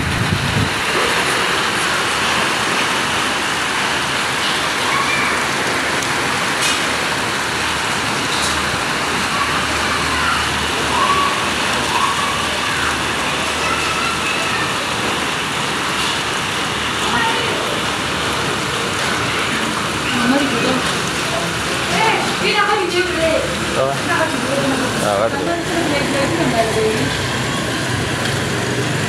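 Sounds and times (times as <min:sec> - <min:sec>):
rain: 0:00.0 - 0:29.0.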